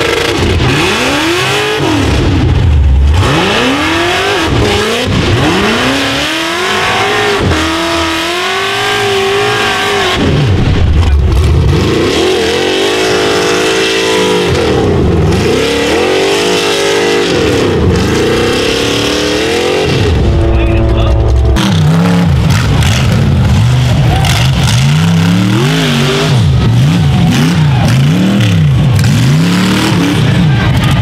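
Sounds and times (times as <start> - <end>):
buggy engine revving hard: 0.0 - 31.0
deeper buggy engine revving: 0.0 - 31.0.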